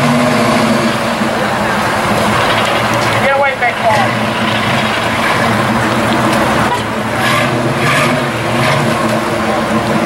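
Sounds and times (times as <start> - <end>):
car engine rolling past: 0.0 - 10.0.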